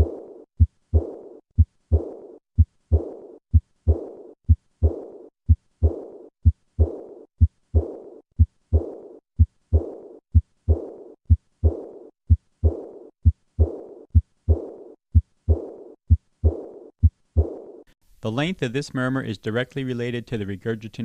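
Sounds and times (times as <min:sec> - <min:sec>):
heartbeat thumps: 0:00.0 - 0:17.8
high-pitched heart murmur: 0:00.0 - 0:17.8.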